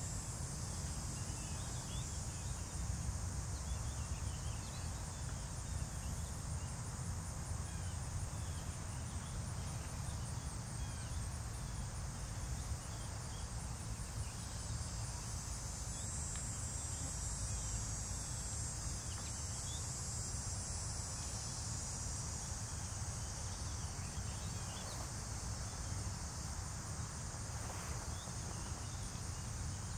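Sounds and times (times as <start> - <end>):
insects trilling: 0.0 - 29.9.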